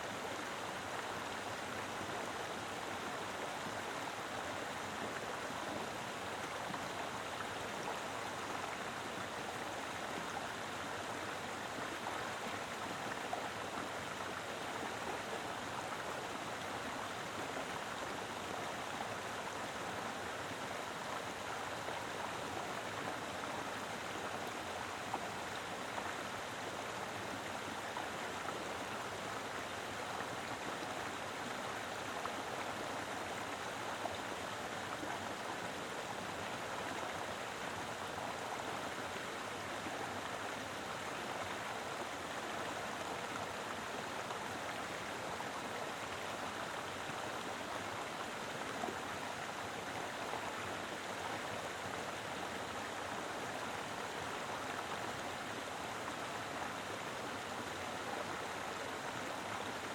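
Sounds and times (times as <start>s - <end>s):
river flowing over rocks: 0.0s - 59.9s.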